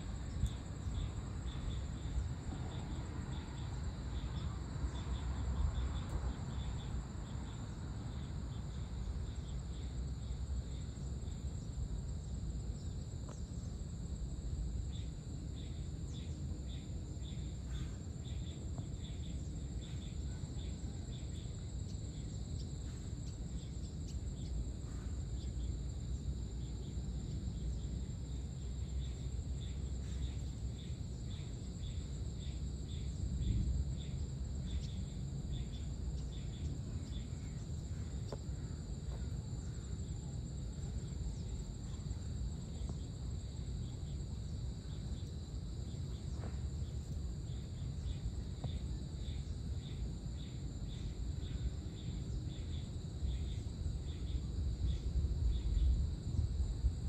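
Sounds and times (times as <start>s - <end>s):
crickets chirping: 0.0s - 57.0s
low outdoor rumble: 0.0s - 57.0s.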